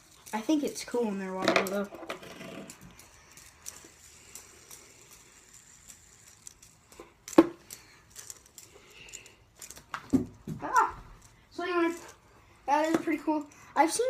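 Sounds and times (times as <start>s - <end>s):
fidget spinner whirring: 0.0s - 14.0s.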